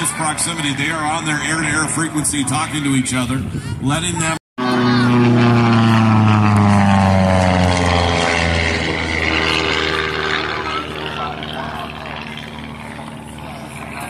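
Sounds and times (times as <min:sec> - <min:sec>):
propeller plane passing: 0:00.0 - 0:14.0.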